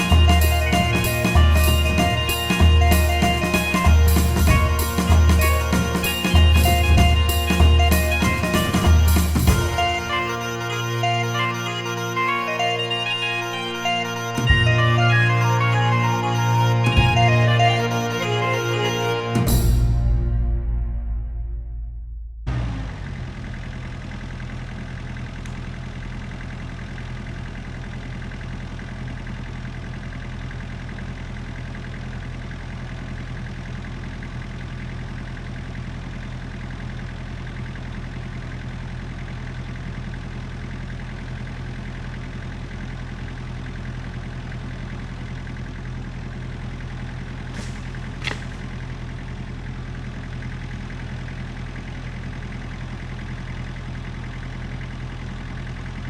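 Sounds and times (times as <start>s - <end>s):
excavator diesel engine idling: 0.0s - 21.3s, 22.5s - 56.0s.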